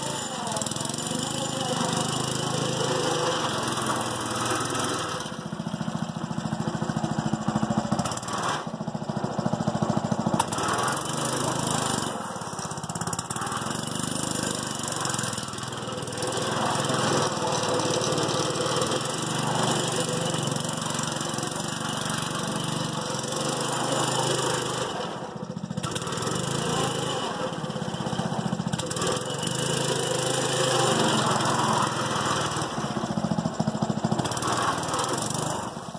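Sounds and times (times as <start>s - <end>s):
small engine revving: 0.0s - 35.9s.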